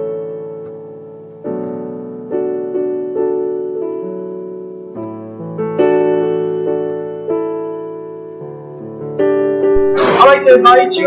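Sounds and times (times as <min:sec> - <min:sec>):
slow soft piano chords: 0:00.0 - 0:10.1.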